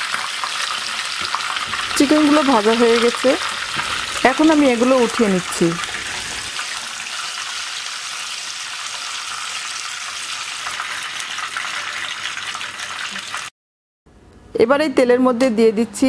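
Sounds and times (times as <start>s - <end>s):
oil sizzling in frying pan: 0.0s - 13.5s.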